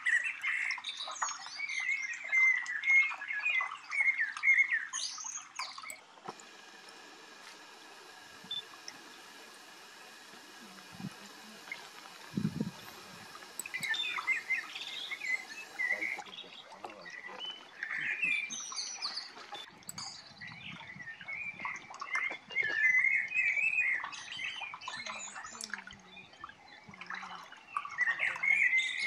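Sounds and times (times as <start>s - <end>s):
birds chirping and calling: 0.0s - 29.0s.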